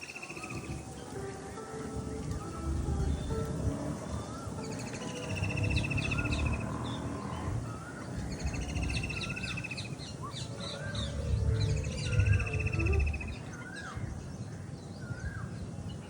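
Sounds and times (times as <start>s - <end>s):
rising whistled bird notes: 0.0s - 15.6s
bird trill: 0.0s - 16.0s
rapid high twittering: 0.0s - 16.0s
steady low rumble: 0.6s - 16.0s.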